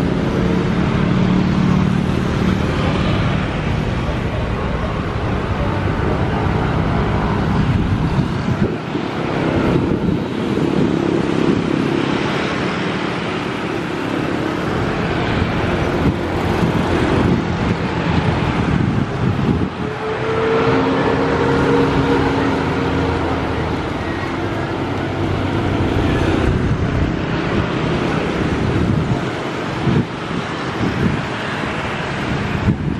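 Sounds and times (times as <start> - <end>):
road traffic passing: 0.0 - 32.9
vehicle engine humming: 0.0 - 32.9.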